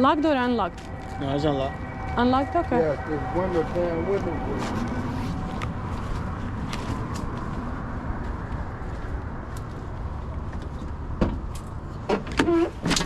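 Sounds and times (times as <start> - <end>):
low vehicle rumble: 0.0 - 12.1.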